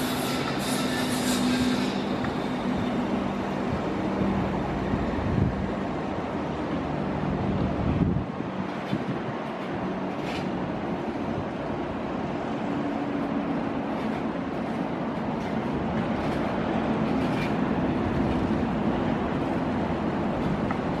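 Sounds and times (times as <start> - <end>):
train rolling along rails: 0.0 - 21.0.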